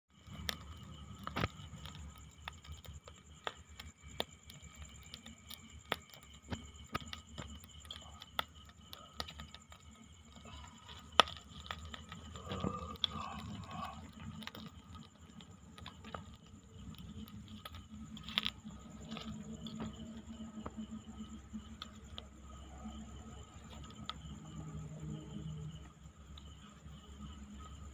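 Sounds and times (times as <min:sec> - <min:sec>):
night insects trilling: 0:00.1 - 0:27.9
wood fire crackling: 0:00.1 - 0:27.9.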